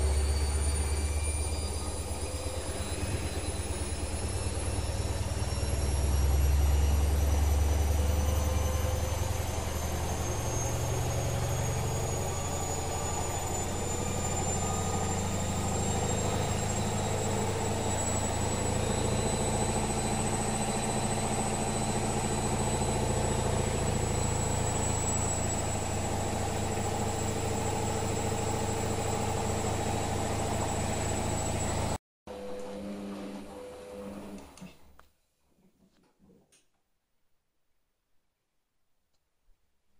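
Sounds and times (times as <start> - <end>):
washing machine spinning: 0.0 - 34.5.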